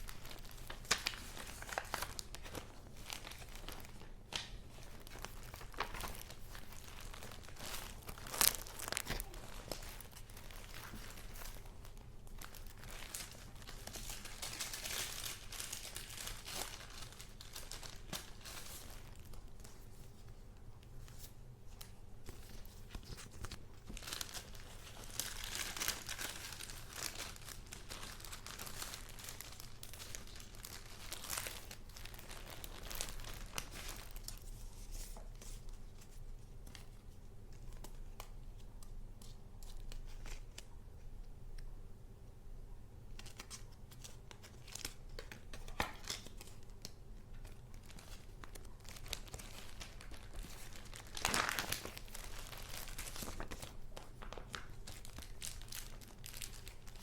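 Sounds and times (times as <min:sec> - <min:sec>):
paper rustling and crinkling: 0:00.0 - 0:40.8, 0:43.1 - 0:57.0.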